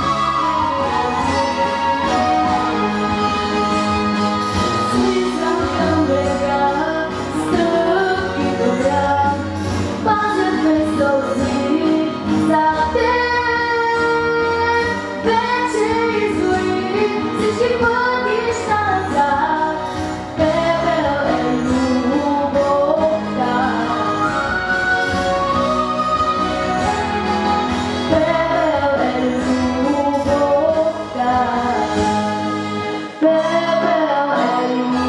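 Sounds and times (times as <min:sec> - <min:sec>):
musical accompaniment: 0:00.0 - 0:35.0
girl singing into microphone: 0:04.9 - 0:27.4, 0:28.0 - 0:35.0.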